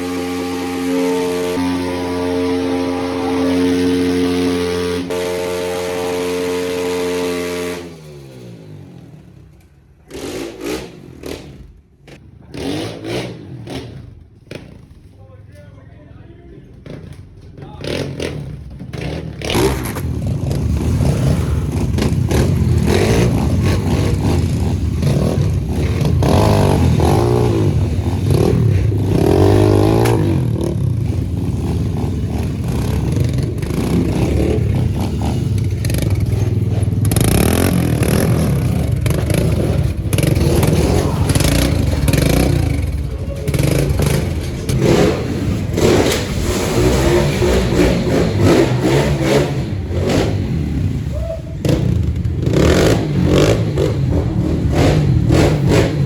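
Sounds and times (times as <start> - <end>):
pit bike engine revving: 0.0 - 15.2, 16.7 - 56.0.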